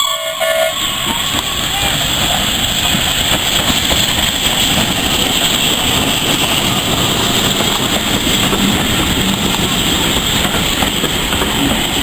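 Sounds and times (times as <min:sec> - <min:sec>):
steam train running: 0:00.0 - 0:12.0.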